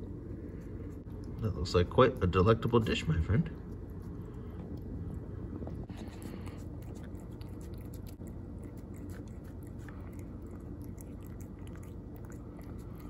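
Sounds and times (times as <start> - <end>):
cat chewing and lapping food: 0.0 - 13.0
low steady hum: 0.0 - 13.0.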